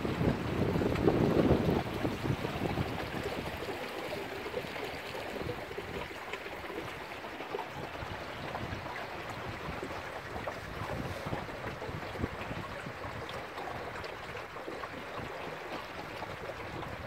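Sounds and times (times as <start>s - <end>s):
water splashing along boat hull: 0.0s - 17.0s.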